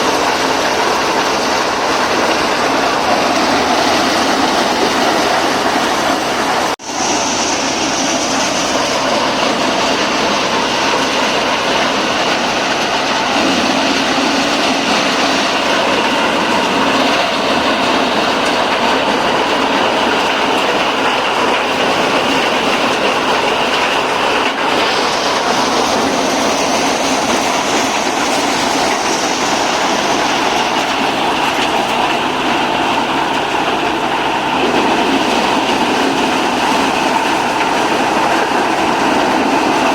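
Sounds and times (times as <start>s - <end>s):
thresher clatter and rumble: 0.0s - 39.9s.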